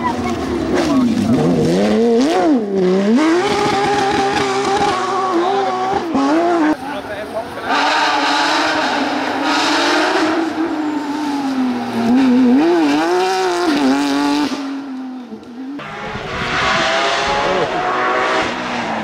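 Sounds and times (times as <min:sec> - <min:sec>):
distant rally car accelerating: 0:00.0 - 0:19.0
rally car engine passing at high revs: 0:00.1 - 0:19.0.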